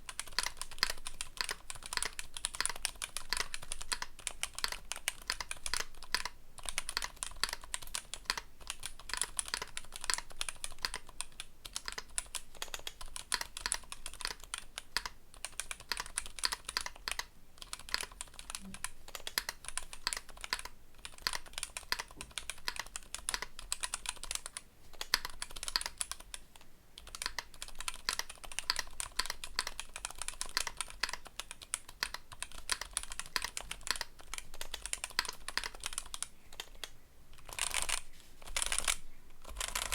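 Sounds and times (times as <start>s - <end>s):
mechanical keyboard typing: 0.1s - 26.4s, 27.0s - 39.9s.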